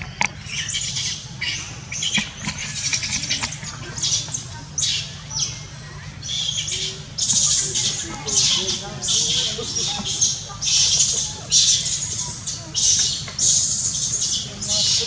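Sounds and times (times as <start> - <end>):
monkeys squealing: 0.0 - 15.0
steady low hum: 0.0 - 15.0.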